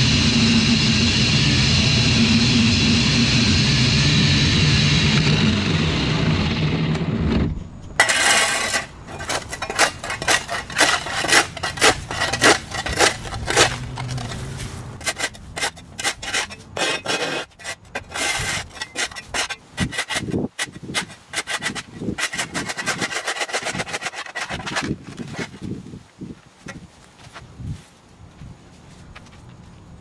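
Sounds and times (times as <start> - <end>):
edger blade scraping turf: 0.0 - 26.0.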